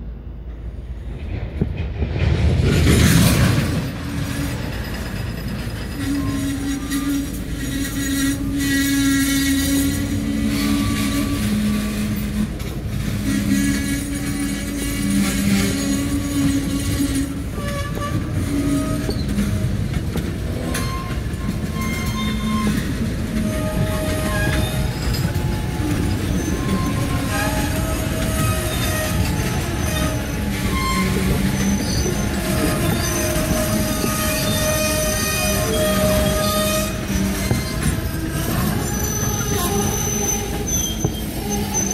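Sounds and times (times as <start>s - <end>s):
train rumble: 0.0s - 41.9s
steel wheels squealing: 2.8s - 41.9s.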